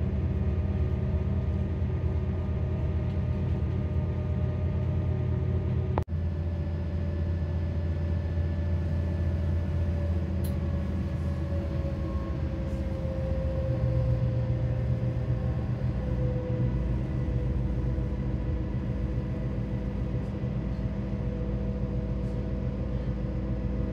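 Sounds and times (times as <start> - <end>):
boat engine humming: 0.0 - 23.9.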